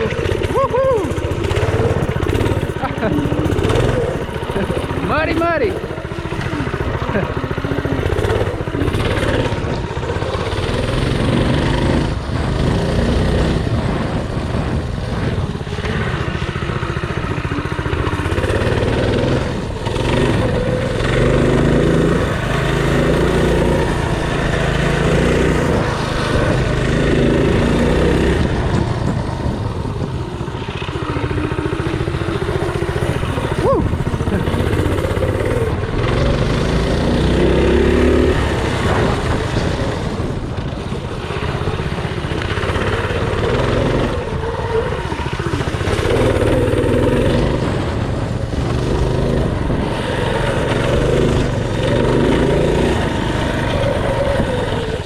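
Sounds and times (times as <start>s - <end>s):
mini bike engine revving: 0.0s - 55.0s.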